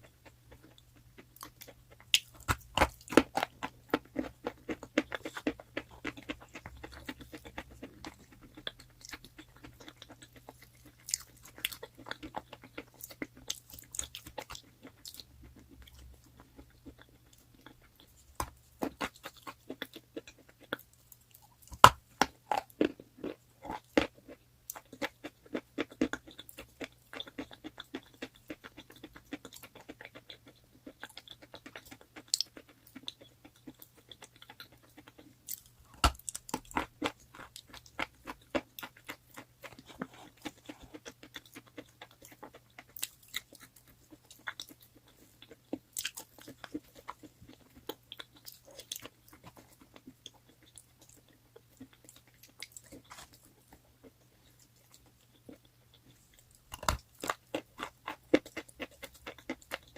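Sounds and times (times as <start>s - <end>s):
chewing crunchy chalk: 0.0s - 20.8s, 21.4s - 59.9s.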